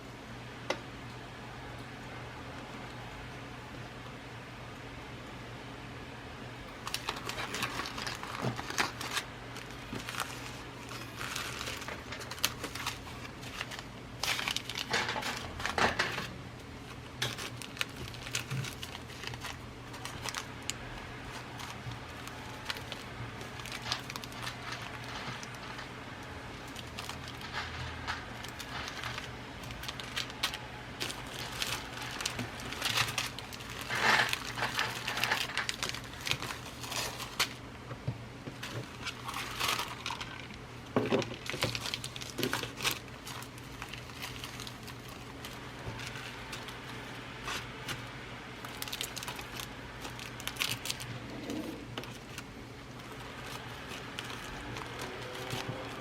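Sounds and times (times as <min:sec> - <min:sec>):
rustling and crinkling packaging: 0:06.7 - 0:56.0.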